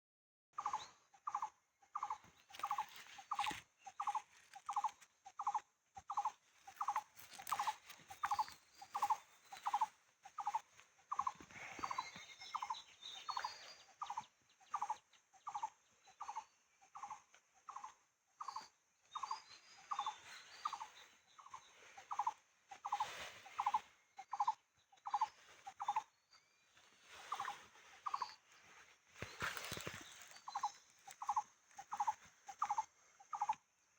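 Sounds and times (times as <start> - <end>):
faint high bird chirps: 0.6 - 33.7.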